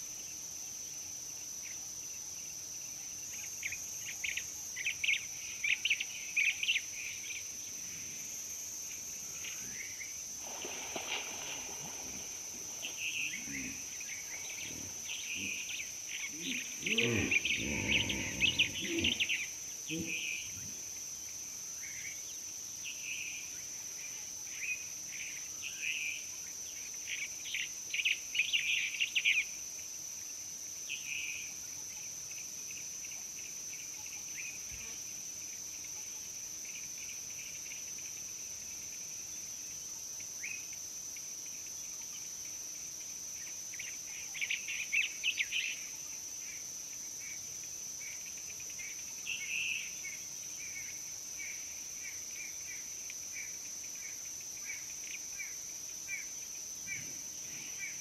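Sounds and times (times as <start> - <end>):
crickets trilling: 0.0 - 58.0
rapid high insect chirping: 0.0 - 58.0.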